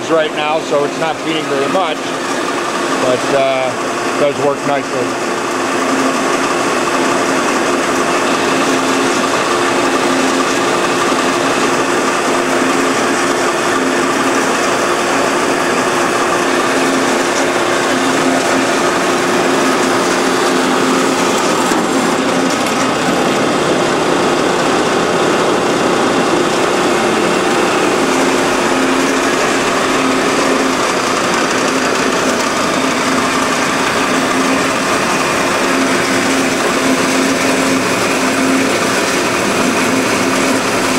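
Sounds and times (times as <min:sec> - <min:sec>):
band saw cutting metal: 0:00.0 - 0:40.9.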